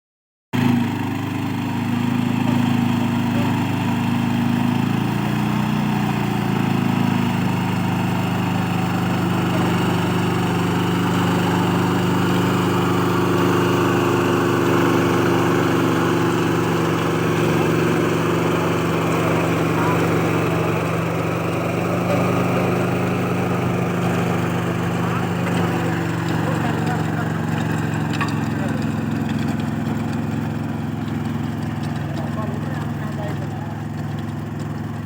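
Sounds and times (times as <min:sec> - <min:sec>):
tractor diesel engine running: 0:00.6 - 0:35.0.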